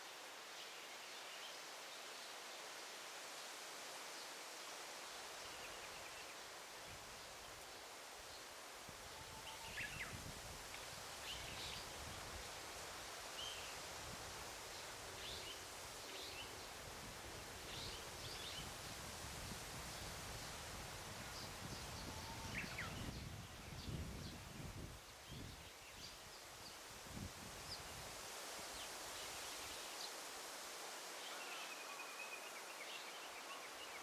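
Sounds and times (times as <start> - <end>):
leaves rustling: 0.0 - 34.0.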